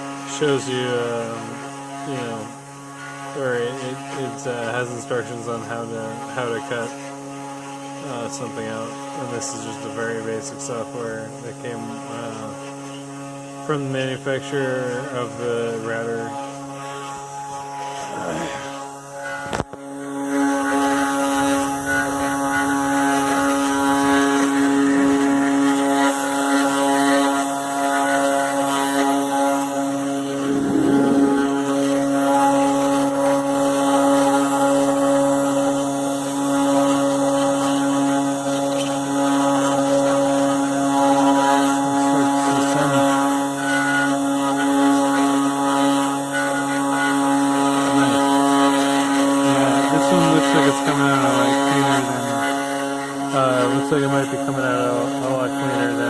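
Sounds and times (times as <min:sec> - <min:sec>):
bit milling wood: 0:00.0 - 0:56.0
low cutting drone: 0:00.0 - 0:56.0
router spindle whine: 0:00.0 - 0:56.0.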